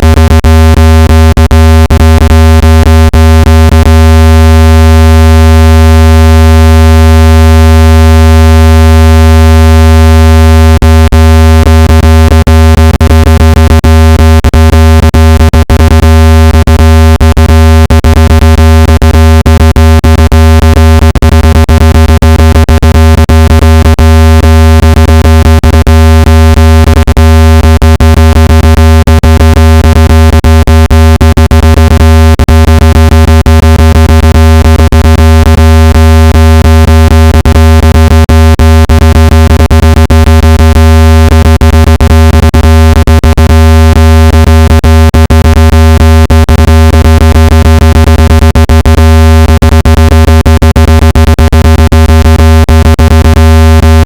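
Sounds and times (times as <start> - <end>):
deep buzzy electronic tone: 0.0 - 52.6, 53.3 - 54.0.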